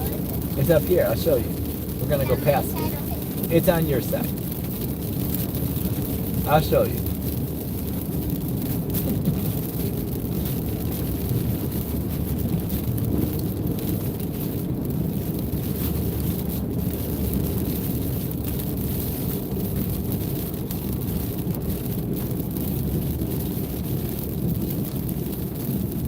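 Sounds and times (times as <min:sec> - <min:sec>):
car tyre and engine rumble: 0:00.0 - 0:26.0.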